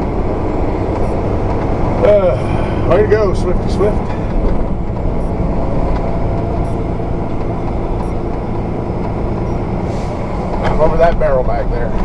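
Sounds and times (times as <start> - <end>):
truck engine and road hum: 0.0 - 12.0.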